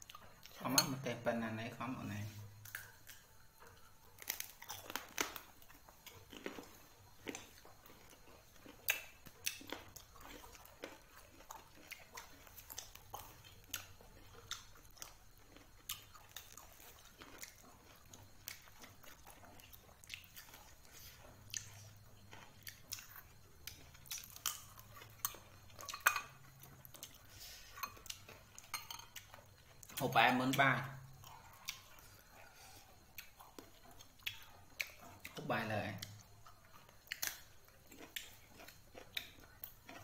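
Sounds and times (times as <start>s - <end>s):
person chewing crisp fruit: 0.0s - 40.0s.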